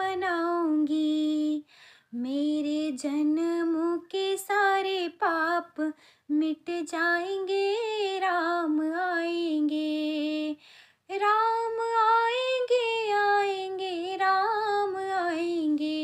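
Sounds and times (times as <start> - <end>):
girl singing unaccompanied: 0.0 - 16.0.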